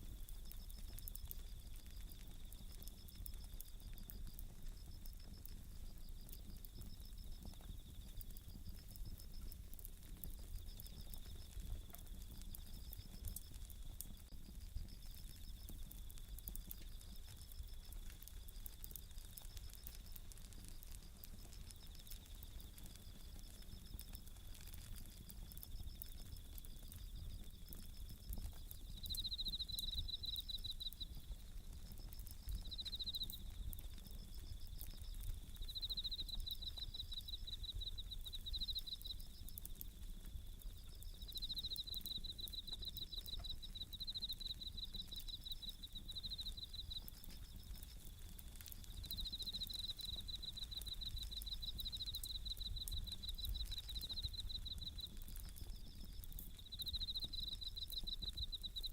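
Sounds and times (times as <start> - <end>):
campfire crackling and popping: 0.0 - 58.9
crickets trilling: 0.0 - 58.9.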